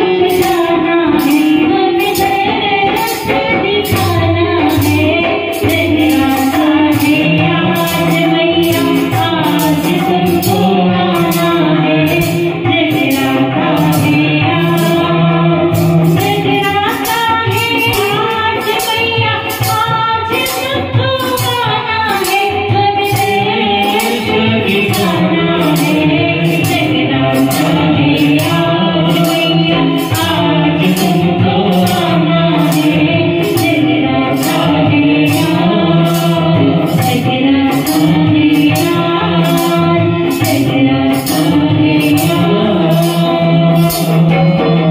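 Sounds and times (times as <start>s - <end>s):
steady percussion beat: 0.0s - 44.9s
woman singing into microphone: 0.0s - 44.9s.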